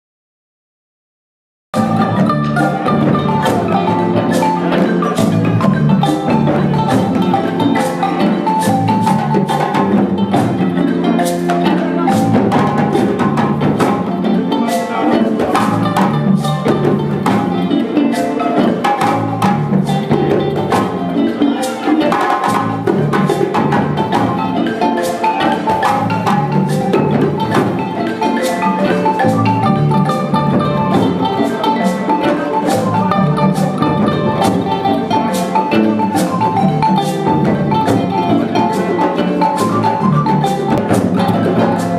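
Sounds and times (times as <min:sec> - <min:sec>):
electric guitar: 0:01.8 - 0:41.9
hand drums: 0:01.8 - 0:41.9
harp-lute: 0:01.8 - 0:41.9
wooden xylophone runs: 0:01.8 - 0:41.9.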